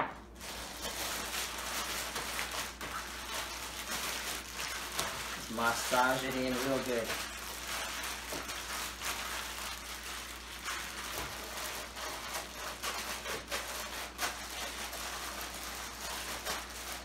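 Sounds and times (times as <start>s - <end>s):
plastic bag crinkling: 0.3s - 17.0s.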